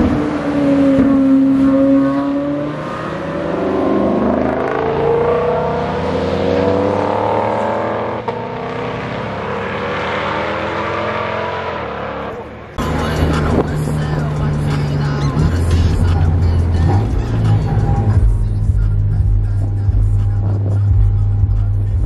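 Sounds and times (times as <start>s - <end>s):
car engines accelerating: 0.0s - 22.0s.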